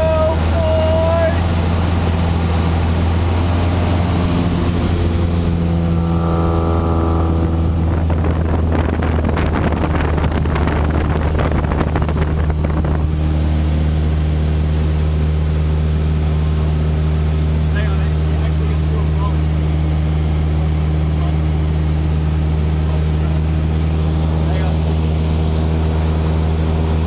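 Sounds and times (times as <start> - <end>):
propeller aircraft engine droning: 0.0 - 27.0.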